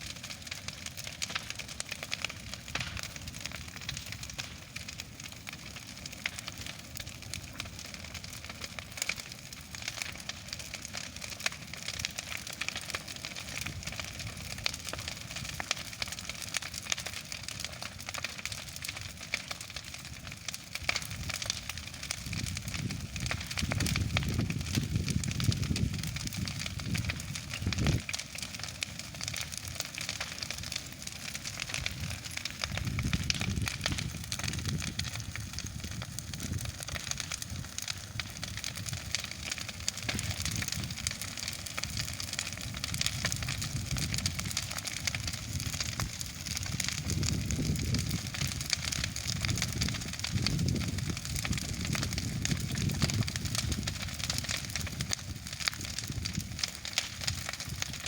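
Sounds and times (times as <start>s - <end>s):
bonfire crackling and popping: 0.0s - 58.0s
low fire rumble: 0.0s - 58.0s.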